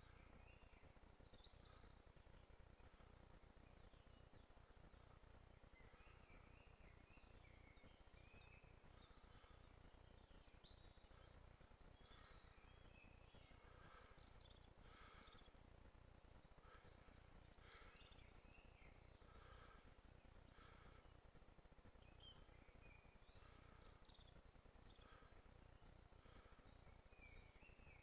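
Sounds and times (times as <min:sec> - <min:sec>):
low background rumble: 0:00.0 - 0:28.0
songbird chirps and trills: 0:00.0 - 0:28.0.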